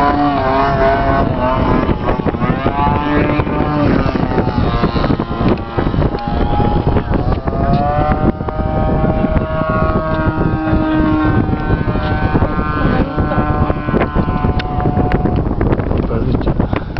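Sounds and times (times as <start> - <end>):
model jet motor whine: 0.0 - 16.1
wind noise on microphone: 0.0 - 16.9.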